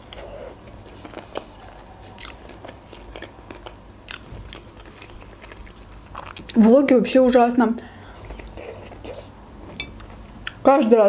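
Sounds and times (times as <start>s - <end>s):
chewing with mouth clicks: 0.0s - 6.7s, 7.8s - 10.6s.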